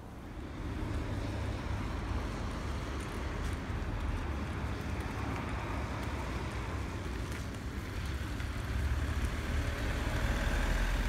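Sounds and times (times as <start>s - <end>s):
street traffic: 0.0s - 11.0s
vehicle approaching: 0.4s - 11.0s.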